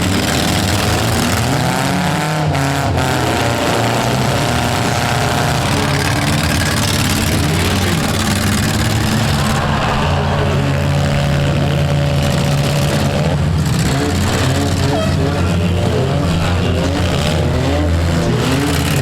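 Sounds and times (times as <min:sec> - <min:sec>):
car engines running: 0:00.0 - 0:19.0.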